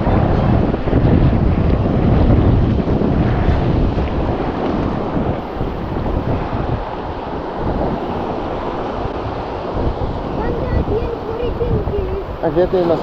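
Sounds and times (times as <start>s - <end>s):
surf rushing on beach: 0.0s - 13.0s
wind buffeting microphone: 0.0s - 13.0s.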